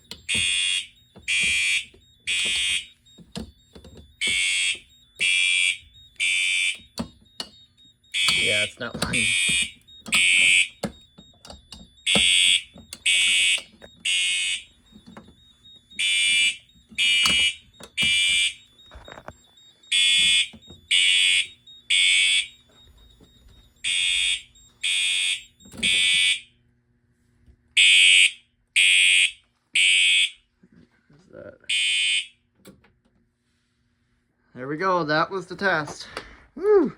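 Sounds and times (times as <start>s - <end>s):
fire alarm blasts: 0.0s - 26.6s, 27.8s - 30.5s, 31.7s - 32.5s.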